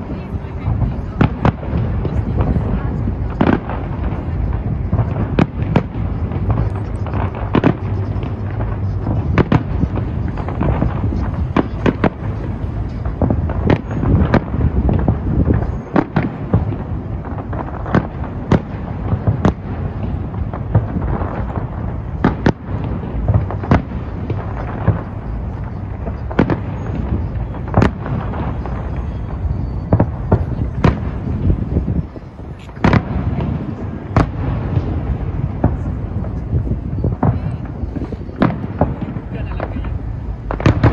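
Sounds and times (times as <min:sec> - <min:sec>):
fireworks bursting in bangs: 0:00.0 - 0:40.9
steady low rumble: 0:00.0 - 0:40.9.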